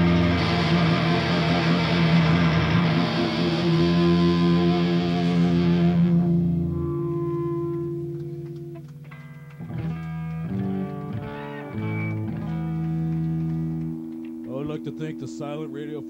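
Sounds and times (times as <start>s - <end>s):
guitar single notes: 0.0s - 16.0s
rock band playing: 0.0s - 16.0s.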